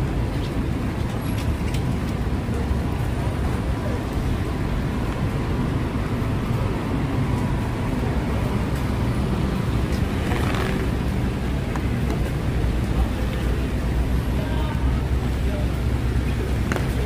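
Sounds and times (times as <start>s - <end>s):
traffic on wet streets: 0.0s - 17.0s.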